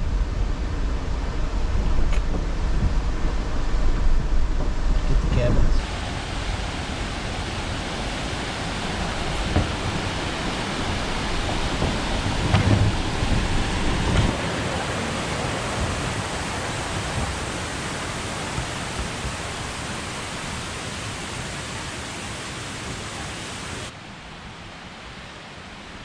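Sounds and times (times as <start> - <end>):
wind buffeting microphone: 0.0 - 23.9
rushing water: 0.0 - 26.0.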